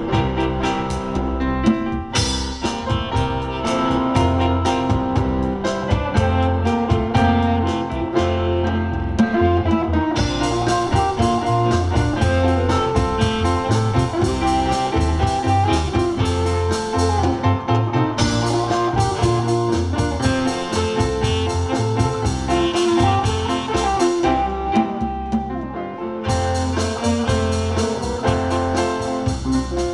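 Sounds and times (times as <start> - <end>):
bass line: 0.0 - 29.9
drum kit beat: 0.0 - 29.9
guitar: 0.0 - 29.9
keyboard: 0.0 - 29.9.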